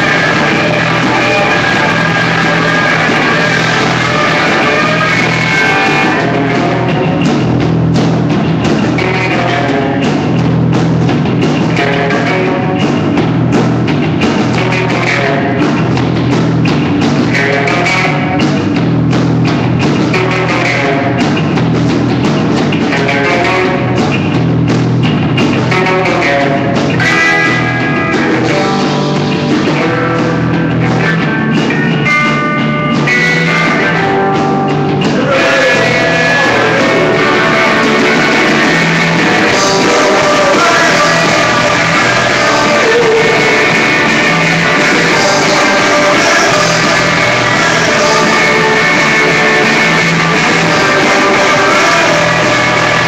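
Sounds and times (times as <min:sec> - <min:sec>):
rock band playing live: 0:00.0 - 0:53.0.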